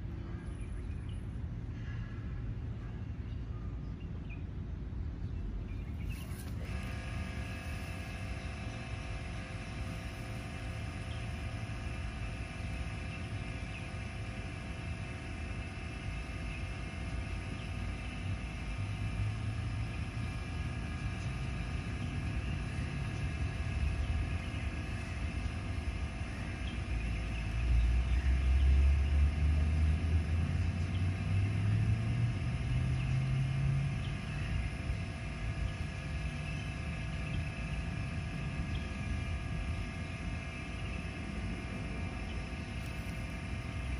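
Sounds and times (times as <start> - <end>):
low engine drone: 0.0 - 43.9
low rumble with hum: 0.0 - 43.9.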